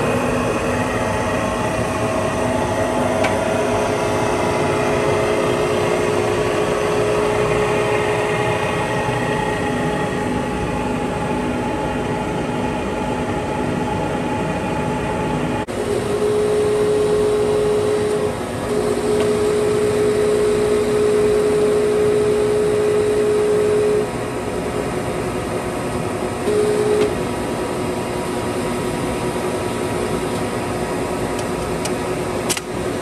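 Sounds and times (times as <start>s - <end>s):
lathe machine hum: 0.0s - 33.0s
lathe whine: 0.0s - 33.0s.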